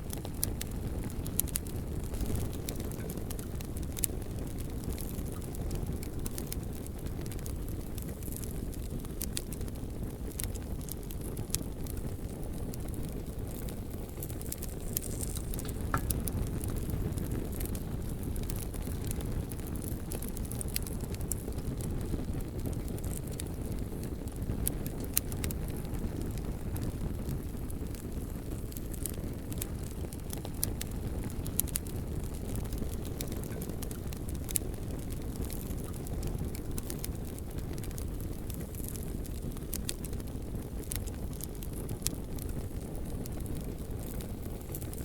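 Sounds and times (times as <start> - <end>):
bonfire crackling and popping: 0.0 - 45.0.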